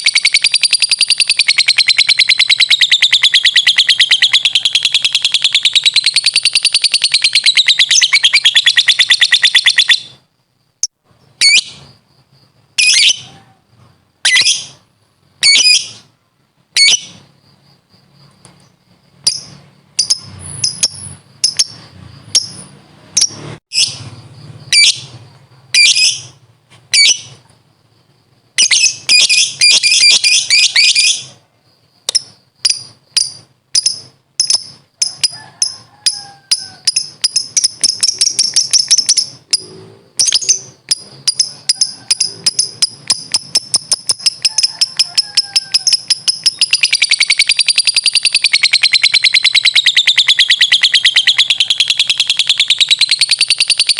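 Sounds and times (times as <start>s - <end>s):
lovebird chirping and trilling: 0.0s - 12.0s, 12.8s - 16.1s, 16.8s - 17.3s, 19.1s - 27.4s, 28.6s - 31.4s, 32.1s - 53.9s.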